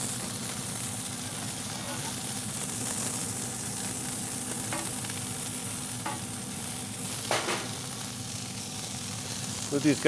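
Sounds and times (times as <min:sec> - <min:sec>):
burgers sizzling on griddle: 0:00.0 - 0:10.0.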